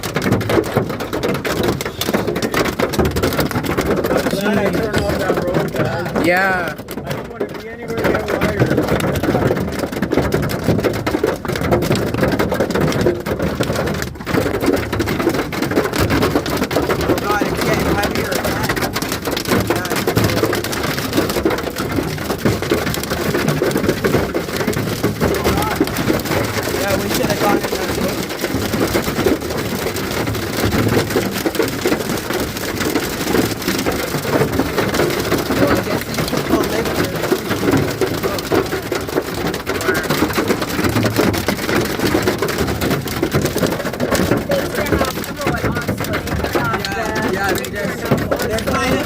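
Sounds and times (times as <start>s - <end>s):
hail and rain pelting a car: 0.0s - 49.0s.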